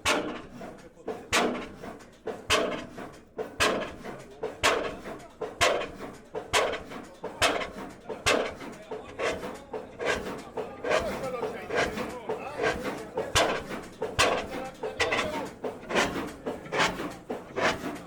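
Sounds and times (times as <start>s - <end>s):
stationary engine banging: 0.0s - 18.0s.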